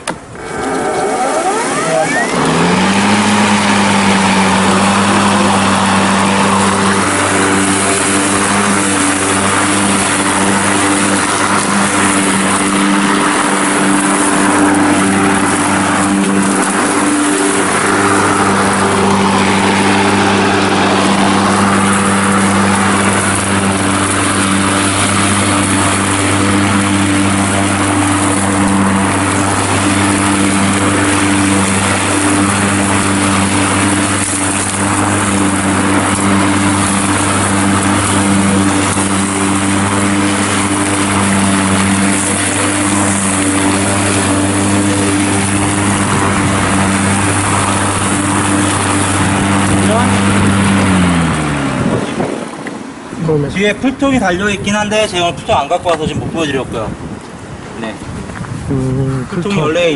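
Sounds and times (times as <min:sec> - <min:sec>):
lawn mower humming: 0:00.0 - 0:59.9
whirring rush of cut grass: 0:00.0 - 0:59.9.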